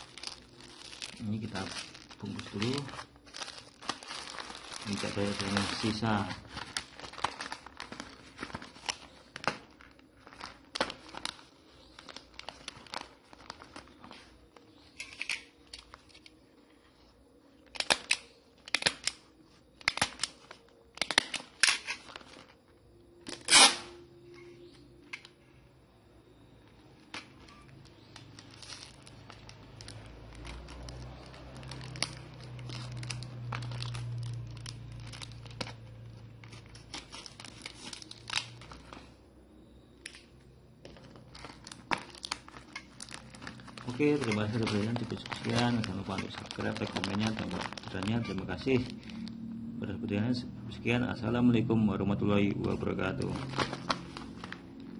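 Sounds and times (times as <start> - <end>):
plastic packaging crinkling: 0.0 - 16.8, 17.6 - 25.4, 26.9 - 39.2, 40.0 - 49.7, 52.3 - 54.9.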